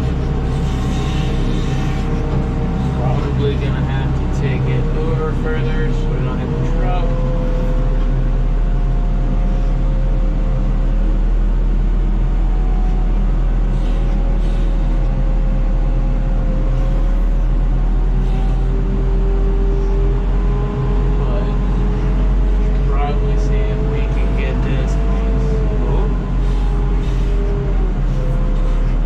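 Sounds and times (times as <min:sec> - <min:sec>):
heavy engine humming: 0:00.0 - 0:29.0
whine drifting in pitch: 0:00.0 - 0:29.0.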